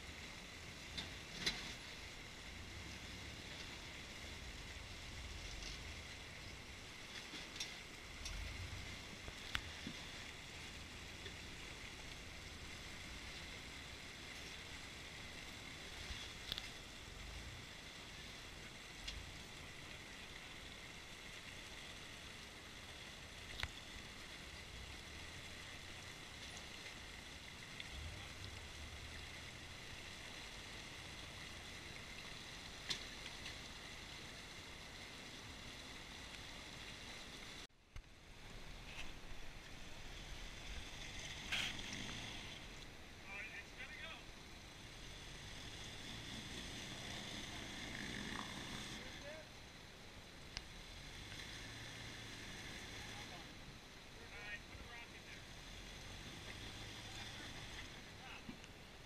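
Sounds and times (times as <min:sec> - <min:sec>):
muffled creek rushing: 0:00.0 - 0:59.0.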